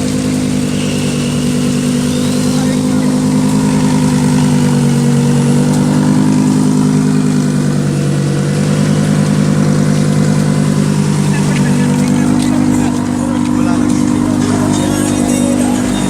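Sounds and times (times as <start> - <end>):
vehicle engine running steadily: 0.0 - 16.0.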